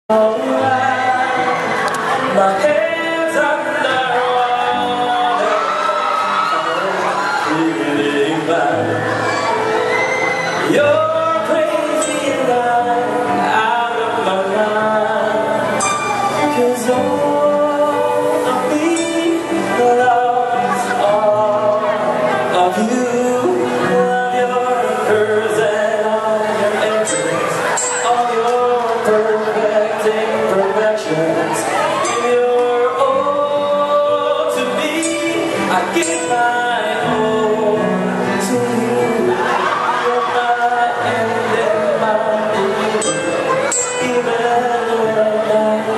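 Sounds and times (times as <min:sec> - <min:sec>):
person singing: 0:00.0 - 0:45.9
live band playing: 0:00.1 - 0:45.9.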